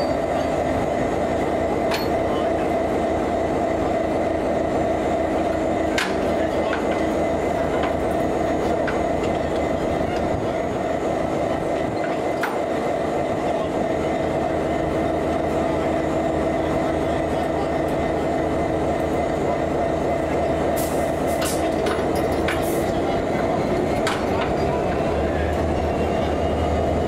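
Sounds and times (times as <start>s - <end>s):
locomotive engine drone: 0.0s - 27.0s
rail and wheel noise: 0.0s - 27.0s.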